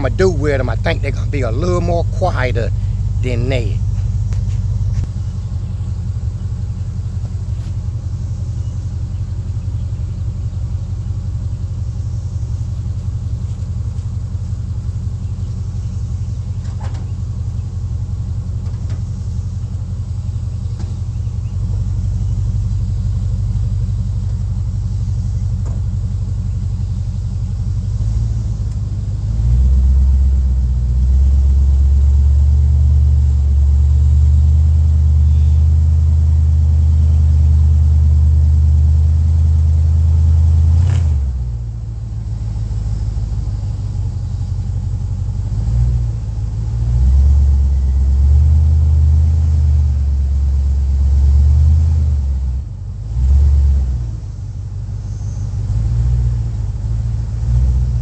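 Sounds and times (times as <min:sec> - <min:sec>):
pickup engine idling: 0:00.0 - 0:58.0.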